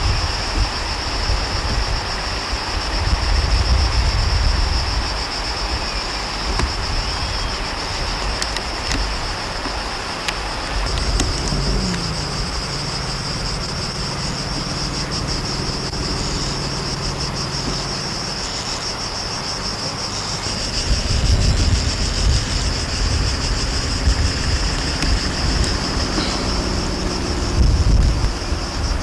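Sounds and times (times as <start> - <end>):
insects chirring: 0.0 - 29.0
wind on microphone: 0.0 - 29.0.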